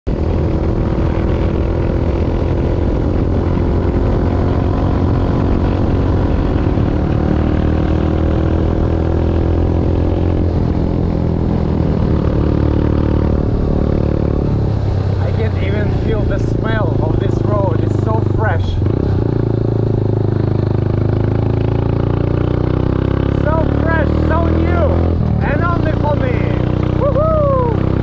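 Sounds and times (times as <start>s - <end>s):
motorbike engine droning: 0.1s - 28.0s.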